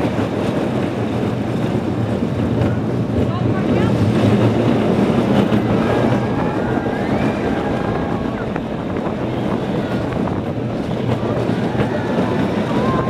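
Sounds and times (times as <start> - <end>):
roller coaster wheels rumbling on rails: 0.0 - 13.0
wind on microphone: 0.0 - 13.0.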